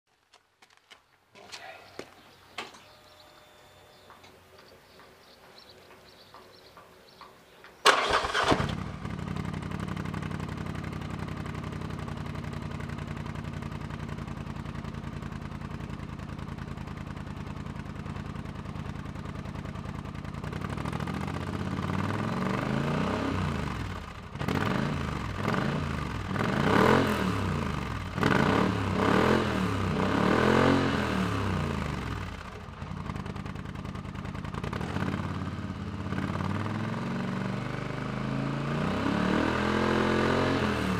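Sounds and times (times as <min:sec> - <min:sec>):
atv engine idling and revving: 0:01.7 - 0:40.9.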